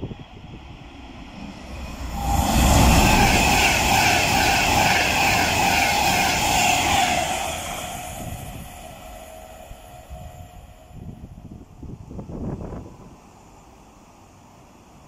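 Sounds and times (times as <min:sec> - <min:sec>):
train rushing past: 0:00.0 - 0:13.9
train high whine: 0:00.0 - 0:15.0.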